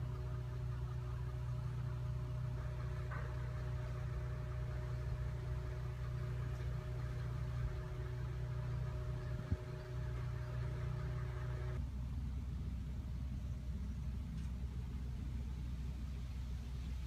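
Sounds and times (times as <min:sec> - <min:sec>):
faint steady whine: 0:00.0 - 0:17.0
heavy machinery engine idling: 0:00.0 - 0:17.0.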